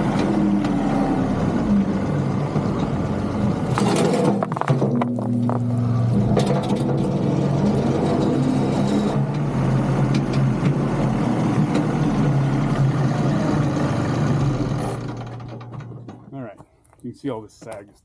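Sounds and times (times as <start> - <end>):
tractor diesel engine droning: 0.0 - 16.3.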